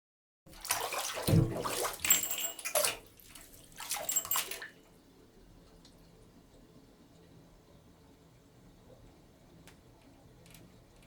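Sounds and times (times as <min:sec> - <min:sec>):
bathtub water draining: 0:00.5 - 0:11.0.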